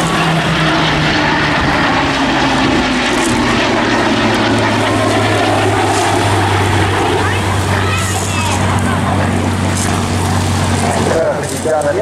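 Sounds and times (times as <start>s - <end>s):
jet noise: 0.0s - 12.0s
propeller engine drone: 0.0s - 12.0s.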